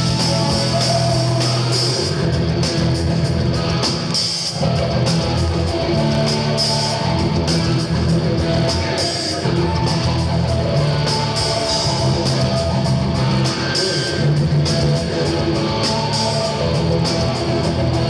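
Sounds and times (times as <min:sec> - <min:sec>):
overdriven electric guitar: 0:00.0 - 0:18.0.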